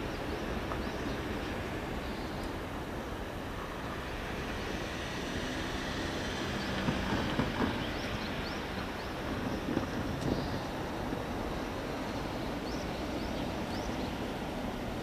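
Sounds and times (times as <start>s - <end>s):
diesel railcar engine humming: 0.0s - 15.0s.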